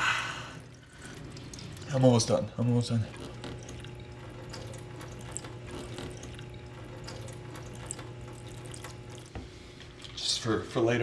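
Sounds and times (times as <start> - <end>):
water pouring into a container: 0.0 - 9.3.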